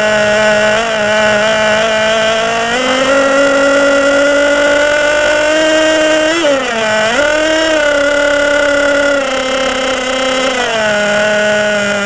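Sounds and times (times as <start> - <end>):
small engine running at high revs: 0.0 - 12.0.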